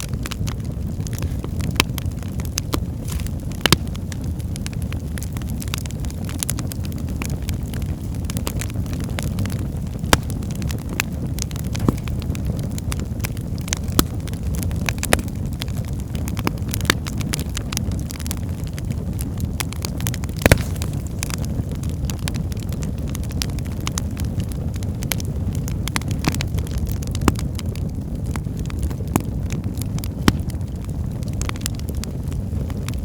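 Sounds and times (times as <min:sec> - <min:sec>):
fire crackles and pops: 0:00.0 - 0:33.0
low whoosh of flames: 0:00.0 - 0:33.0.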